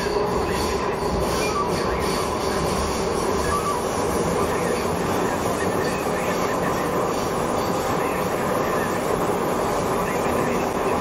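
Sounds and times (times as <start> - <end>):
train wheels rumbling on rail: 0.0 - 11.0
whining tone: 0.0 - 11.0.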